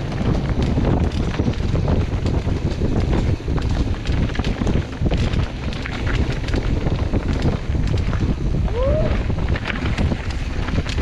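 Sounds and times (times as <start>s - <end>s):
bike rattles and clacks: 0.0s - 11.0s
wind rumble on microphone: 0.0s - 11.0s.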